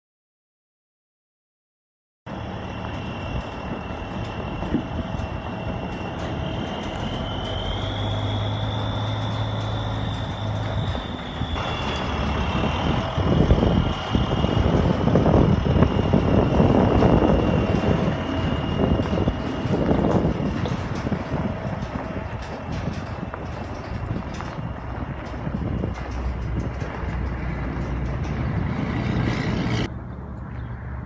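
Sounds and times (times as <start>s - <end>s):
wind buffeting microphone: 2.3s - 30.0s
diesel truck engine running: 2.3s - 31.0s
high engine whine: 2.3s - 31.0s.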